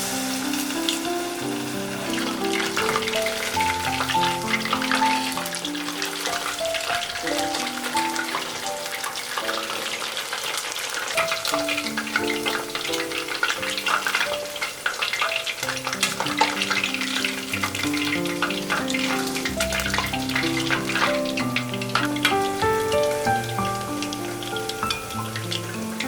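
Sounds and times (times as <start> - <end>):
chicken frying in hot oil: 0.0 - 26.0.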